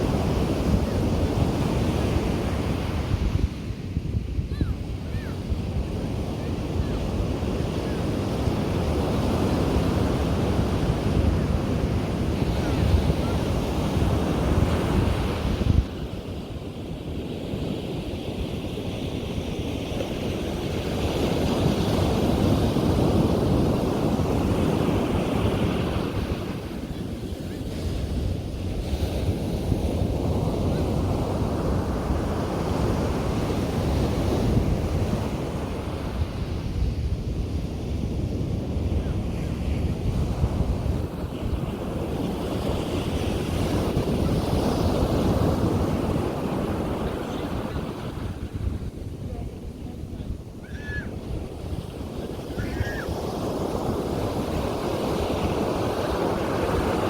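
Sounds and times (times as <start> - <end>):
sea waves breaking on beach: 0.0 - 57.0
wind buffeting microphone: 0.0 - 57.0.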